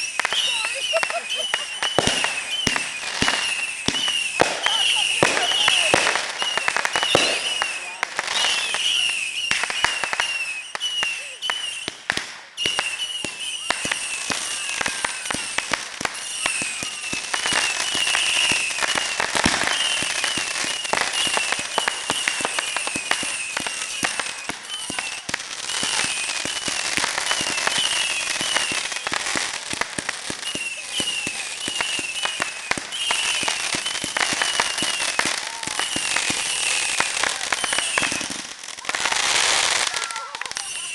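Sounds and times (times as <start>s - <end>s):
fireworks crackling pops: 0.0s - 40.9s
high-pitched firework whistles: 0.0s - 40.9s.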